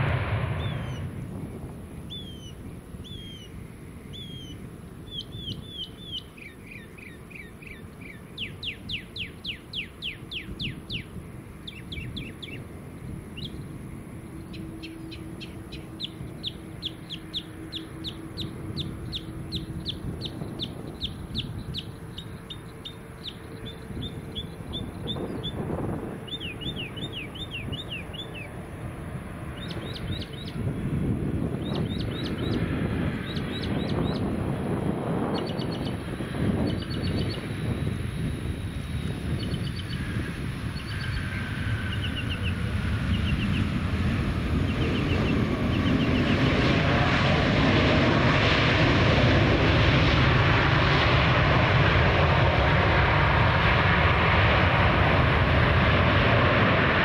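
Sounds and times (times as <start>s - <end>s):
low steady rumble: 0.0s - 57.0s
songbird singing: 0.4s - 47.8s.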